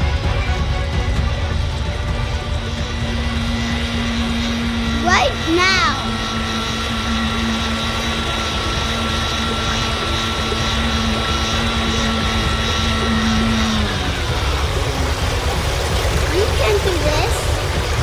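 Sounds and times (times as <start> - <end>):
airboat fan engine humming: 0.0 - 18.0.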